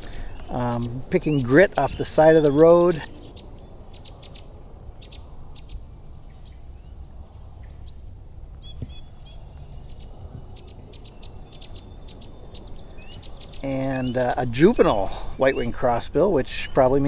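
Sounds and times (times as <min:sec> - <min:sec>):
songbirds calling: 0:00.0 - 0:17.0.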